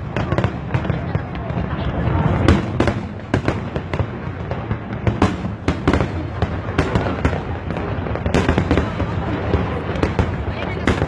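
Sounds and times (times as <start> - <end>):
fireworks bangs and crackles: 0.0 - 11.0
low fireworks rumble: 0.0 - 11.0.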